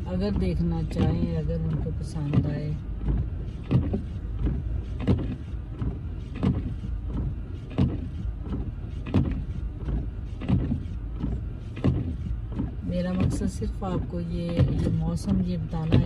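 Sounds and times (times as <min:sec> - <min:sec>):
car driving rumble: 0:00.0 - 0:16.0
windshield wipers sweeping: 0:00.0 - 0:16.0.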